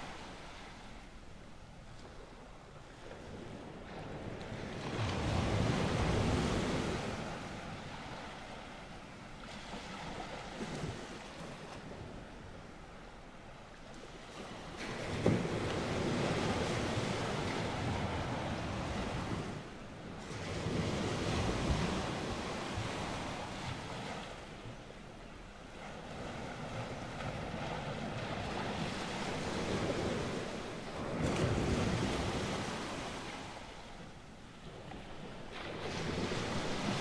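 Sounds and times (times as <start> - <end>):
ocean waves washing in: 0.0 - 37.0.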